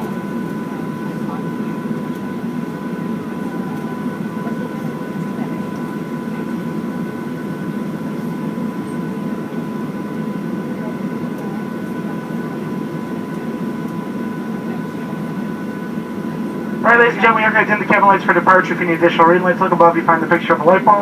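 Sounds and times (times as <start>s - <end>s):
air conditioning: 0.0s - 21.0s
jet engine rumble: 0.0s - 21.0s.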